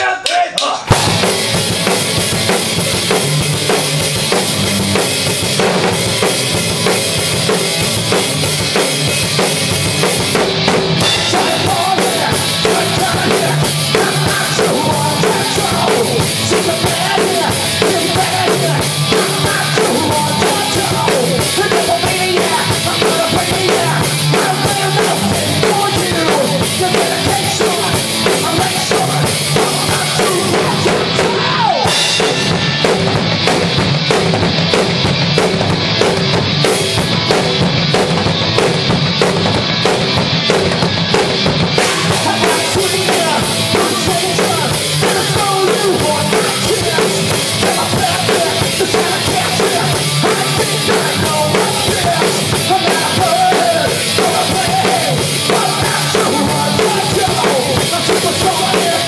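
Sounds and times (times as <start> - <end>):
drums and crashing cymbals: 0.6 - 59.0
punk rock band playing: 0.8 - 59.0
electric guitar: 0.9 - 59.0.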